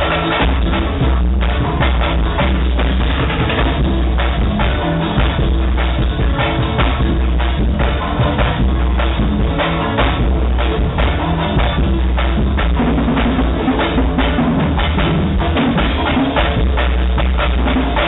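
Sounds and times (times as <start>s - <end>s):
drum kit beat: 0.0s - 18.0s
keyboard: 0.0s - 18.0s
live band playing loudly: 0.0s - 18.0s.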